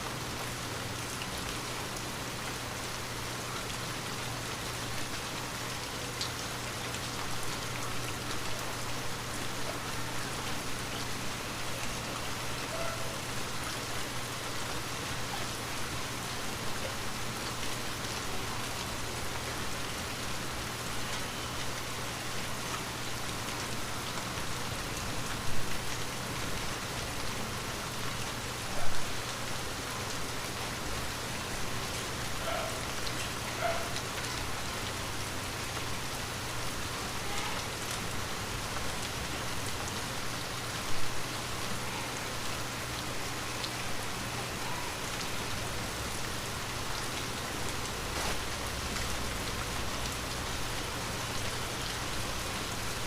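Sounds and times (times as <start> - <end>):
light rain pattering: 0.0 - 53.0.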